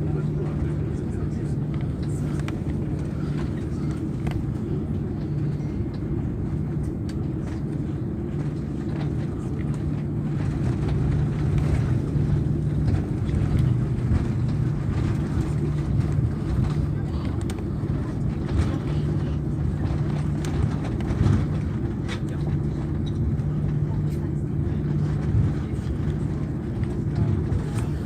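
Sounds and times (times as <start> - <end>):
aircraft cabin rumble: 0.0 - 28.0.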